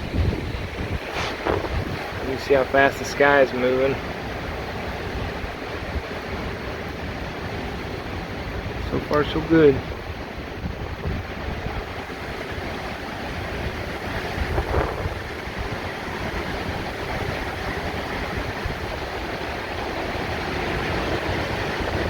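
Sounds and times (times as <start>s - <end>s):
wind buffeting microphone: 0.0s - 22.0s
wind rushing through trees: 0.0s - 22.0s.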